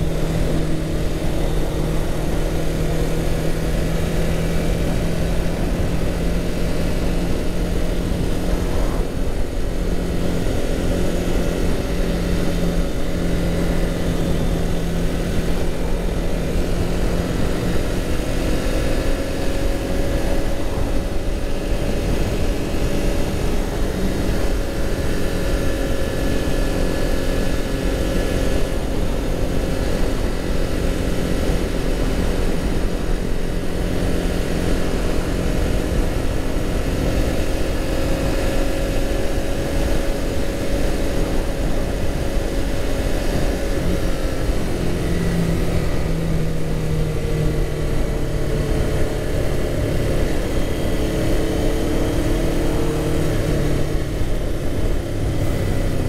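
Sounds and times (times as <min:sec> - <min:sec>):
motorcycle engine cruising: 0:00.0 - 0:56.0
wind on microphone: 0:00.0 - 0:56.0.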